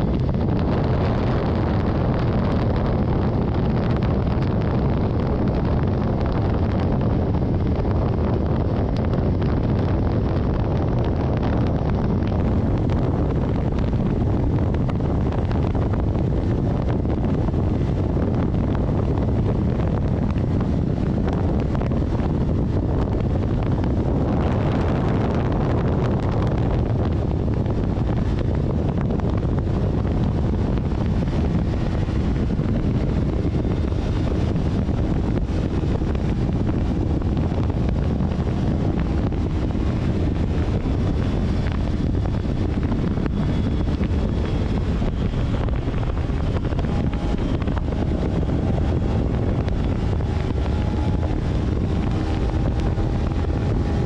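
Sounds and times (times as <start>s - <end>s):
moving vehicle on road: 0.0s - 54.0s
wind buffeting microphone: 0.0s - 54.0s.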